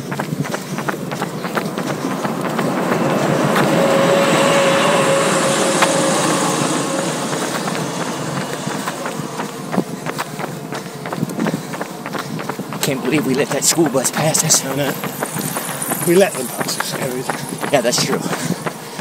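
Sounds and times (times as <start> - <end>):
bus driving past: 0.0 - 19.0
steady whine: 0.0 - 19.0.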